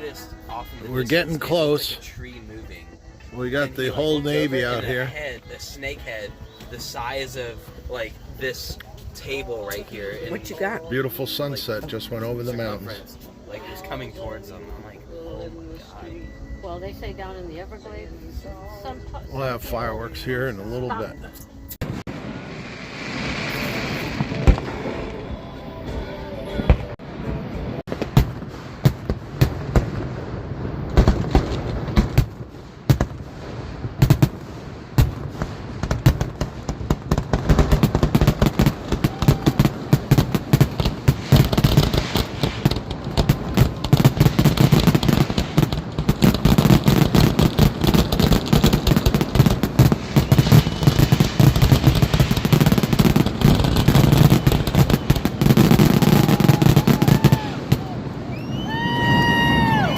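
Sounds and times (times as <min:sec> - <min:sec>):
fireworks bangs and crackling: 0:00.0 - 0:14.7, 0:18.5 - 0:59.9.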